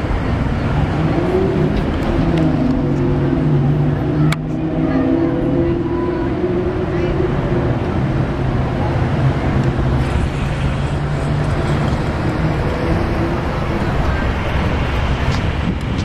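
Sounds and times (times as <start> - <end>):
low engine hum: 0.0 - 16.0
street traffic noise: 0.0 - 16.0.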